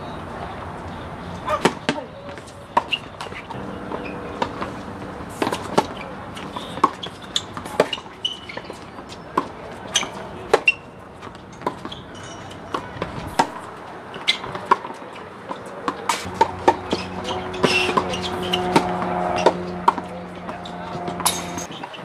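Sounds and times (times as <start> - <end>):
tennis balls struck and bouncing: 0.8 - 22.0.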